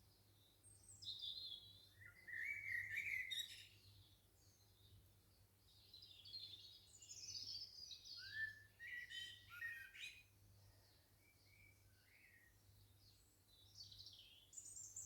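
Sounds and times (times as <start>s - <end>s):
birds singing: 0.4s - 4.9s, 5.8s - 15.0s.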